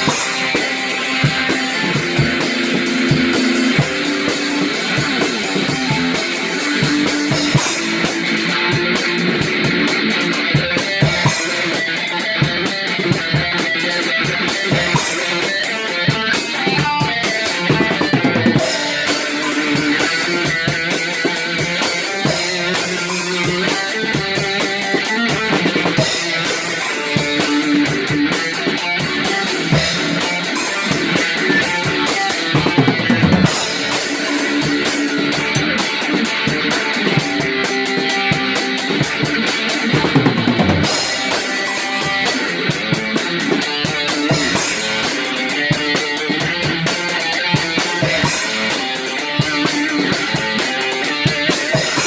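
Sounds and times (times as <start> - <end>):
rock song with guitar and drums: 0.0 - 52.0.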